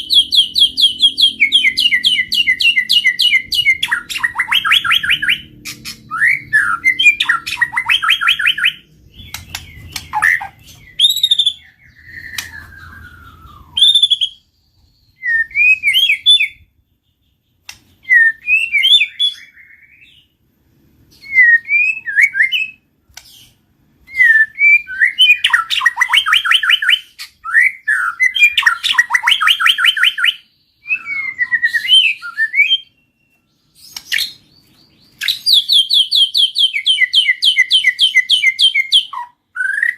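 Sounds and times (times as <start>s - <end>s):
bird singing whistled phrases: 0.0s - 16.7s, 18.0s - 20.3s, 21.1s - 39.9s.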